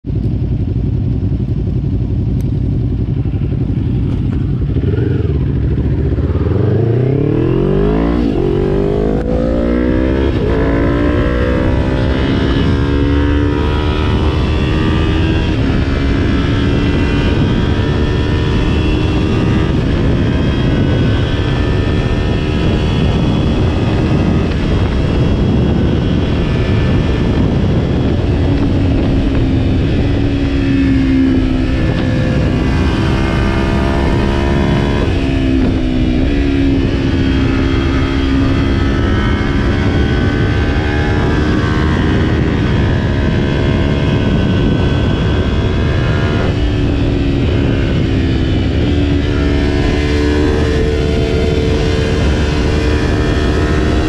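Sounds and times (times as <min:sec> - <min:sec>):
motorcycle engine idling and revving: 0:00.0 - 0:54.0
wind noise: 0:00.0 - 0:54.0.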